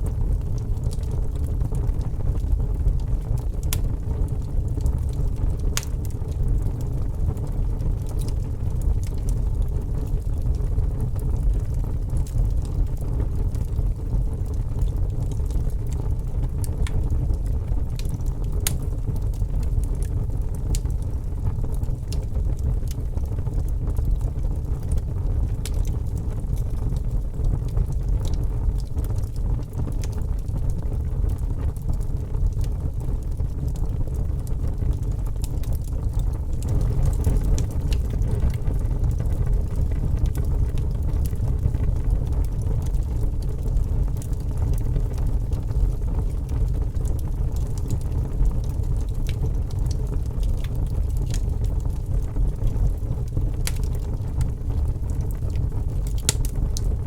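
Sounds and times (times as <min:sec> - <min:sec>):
fire crackles and pops: 0:00.0 - 0:57.0
fire rumbling: 0:00.0 - 0:57.0.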